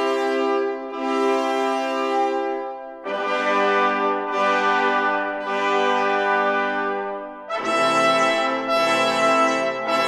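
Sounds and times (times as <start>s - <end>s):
long held brass notes: 0.0s - 10.0s.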